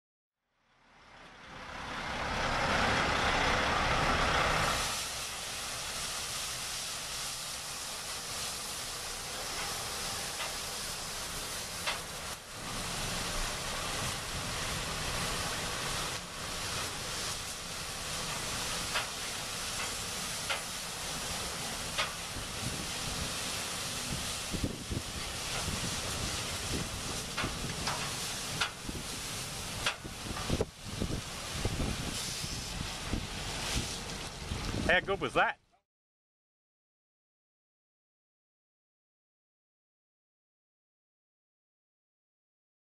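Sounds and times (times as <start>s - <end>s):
truck engine running low: 0.7s - 35.4s
water jets spraying truck: 0.8s - 35.6s.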